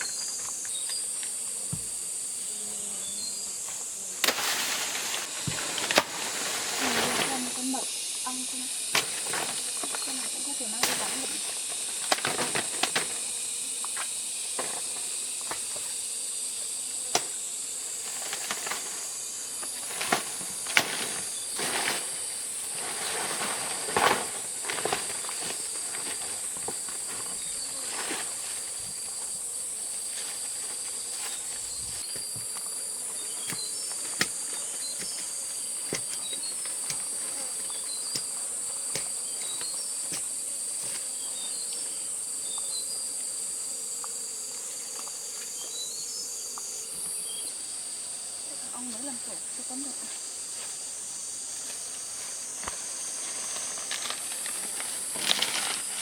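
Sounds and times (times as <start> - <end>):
forest insects droning: 0.0 - 56.0
high insect chirping: 0.0 - 56.0.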